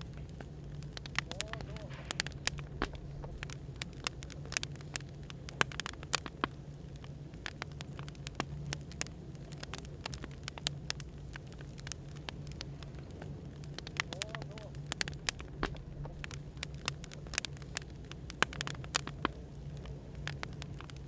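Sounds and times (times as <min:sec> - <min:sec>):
firewood crackling and popping: 0:00.0 - 0:21.0
low background hum: 0:00.0 - 0:21.0.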